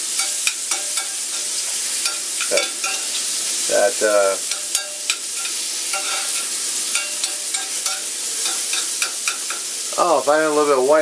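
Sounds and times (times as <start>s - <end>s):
metal spoon scraping a pan: 0.0s - 10.0s
mushrooms sizzling in a pan: 0.0s - 11.0s.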